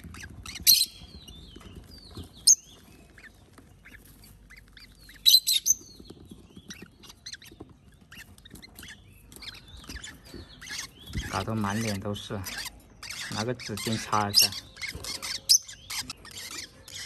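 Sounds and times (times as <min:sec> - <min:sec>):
parrot chicks chirping and squawking: 0:00.0 - 0:17.0.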